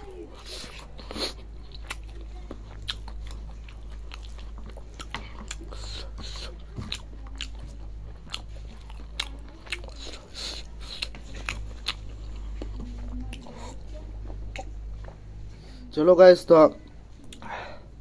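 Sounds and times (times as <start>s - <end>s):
close chewing with mouth smacks: 0.0s - 15.3s.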